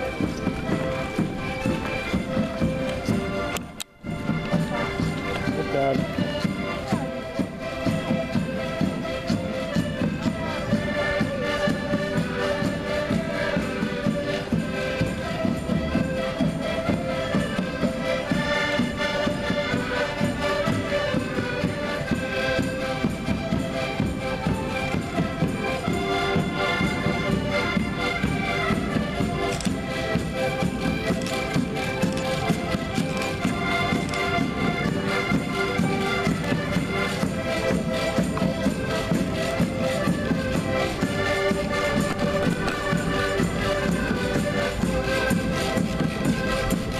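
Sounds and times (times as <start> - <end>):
button accordions playing together: 0.0 - 46.9.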